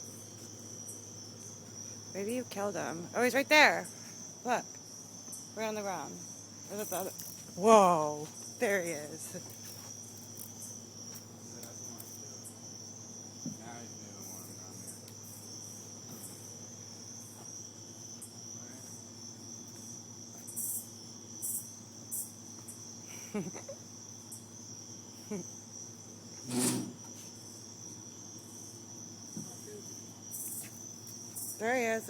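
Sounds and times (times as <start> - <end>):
cicadas droning: 0.0 - 32.0.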